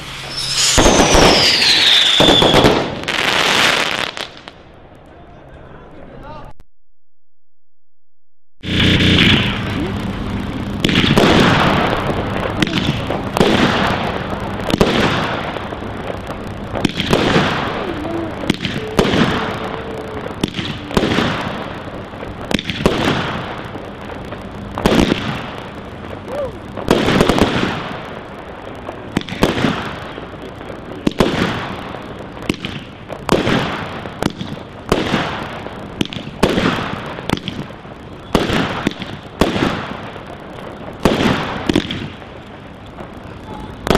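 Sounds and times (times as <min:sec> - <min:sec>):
firework shots firing: 0:00.0 - 0:04.6, 0:08.6 - 0:43.9.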